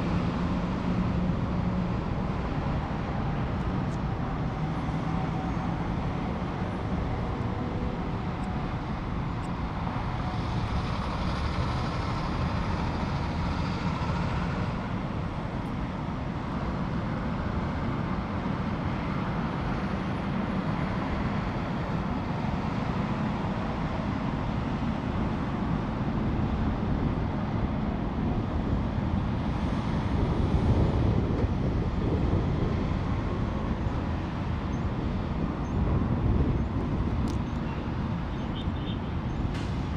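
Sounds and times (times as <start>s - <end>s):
freeway traffic rumbling: 0.0s - 39.9s.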